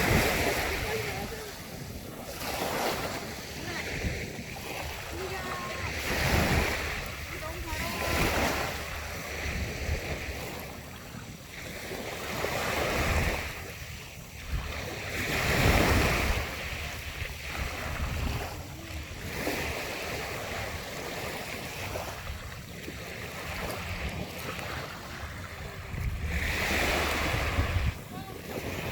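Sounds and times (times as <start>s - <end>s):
sea waves washing onto shore: 0.0s - 28.9s
wind buffeting microphone: 0.0s - 28.9s.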